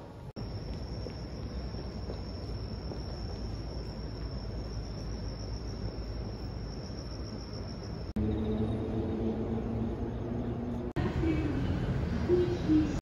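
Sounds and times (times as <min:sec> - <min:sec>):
low city rumble: 0:00.0 - 0:13.0
continuous high-pitched tone: 0:00.4 - 0:13.0.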